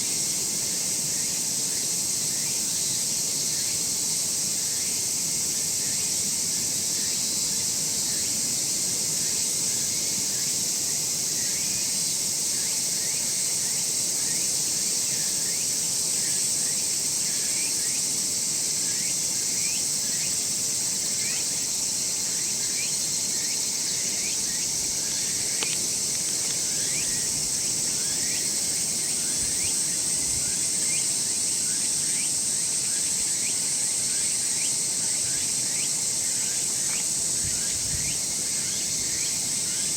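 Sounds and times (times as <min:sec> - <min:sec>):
high-pitched insect chorus: 0:00.0 - 0:39.9
insect chirps: 0:00.0 - 0:39.9.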